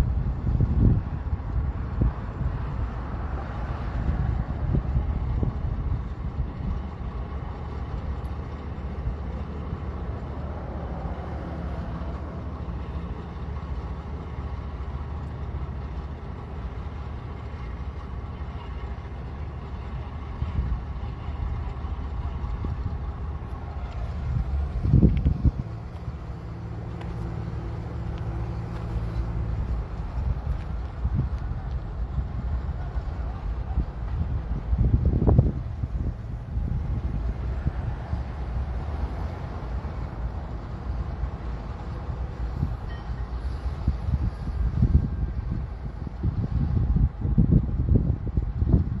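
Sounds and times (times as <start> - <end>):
wind on microphone: 0.0 - 12.9, 19.8 - 49.0
distant heavy machinery rumble: 0.0 - 49.0.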